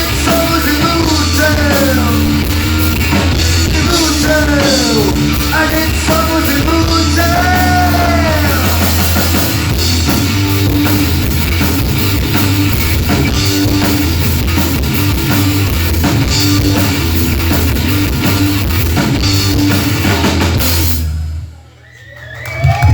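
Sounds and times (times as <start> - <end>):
electric guitar: 0.0 - 21.4
drum kit: 0.0 - 21.6.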